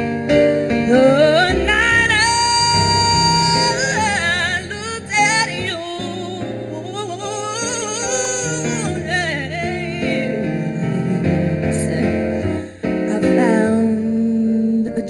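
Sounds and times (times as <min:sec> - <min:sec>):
instrumental accompaniment: 0:00.0 - 0:15.0
woman singing soul ballad: 0:00.8 - 0:15.0.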